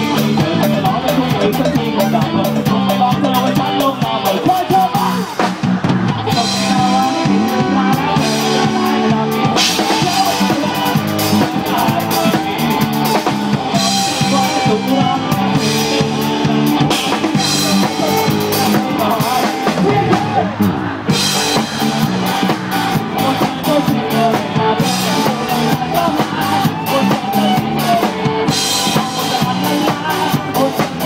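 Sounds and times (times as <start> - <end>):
drums and cymbal crashes: 0.0 - 31.0
live rock band: 0.0 - 31.0.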